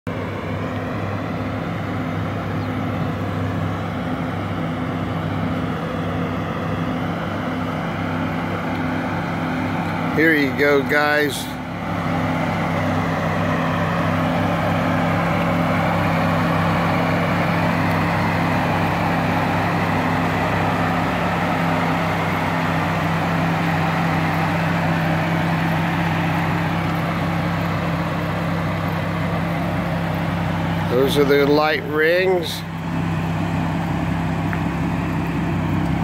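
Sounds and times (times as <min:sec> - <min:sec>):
car engine idling: 0:00.1 - 0:36.0.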